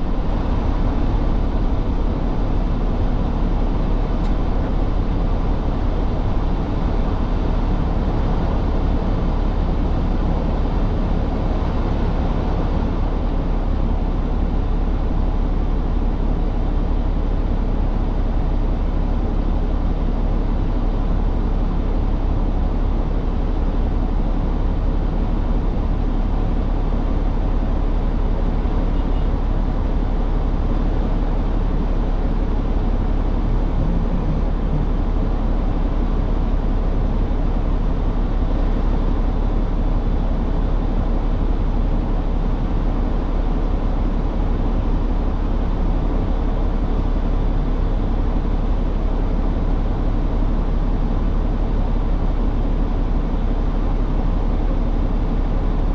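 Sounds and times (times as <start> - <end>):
truck diesel engine rumbling: 0.0 - 55.9.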